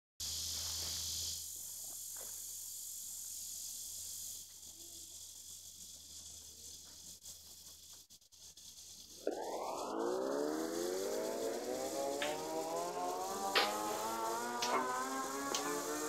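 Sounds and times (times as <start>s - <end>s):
insects droning: 0.2s - 16.0s.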